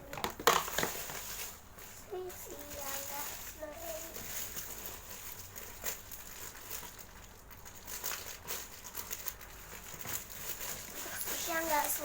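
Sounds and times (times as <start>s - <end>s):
toy packaging crinkling: 0.0s - 12.0s.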